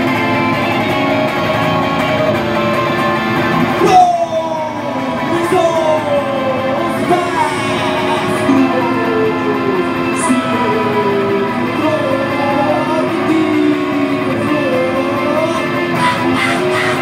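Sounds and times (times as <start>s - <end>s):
electric guitar melody: 0.0s - 17.0s
strummed guitar: 0.0s - 17.0s.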